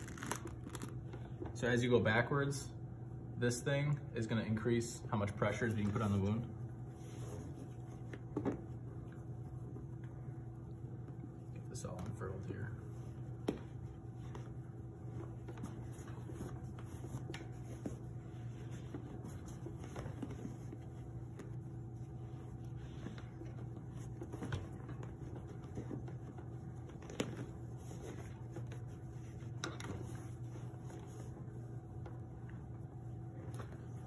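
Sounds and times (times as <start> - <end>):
bandage rustling: 0.0 - 1.4, 5.5 - 34.0
low steady hum: 0.0 - 34.0.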